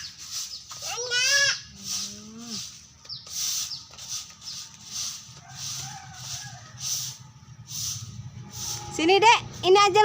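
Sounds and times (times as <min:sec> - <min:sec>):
soft rhythmic hissing: 0:00.0 - 0:09.0.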